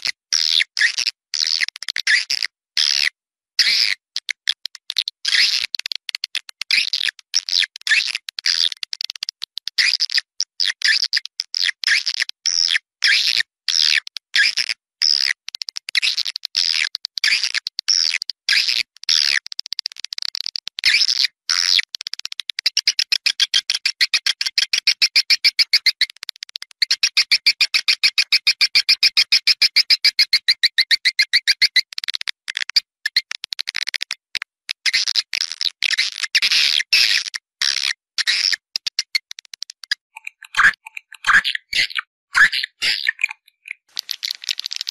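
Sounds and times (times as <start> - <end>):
fast trill of clicks: 0.0 - 44.9.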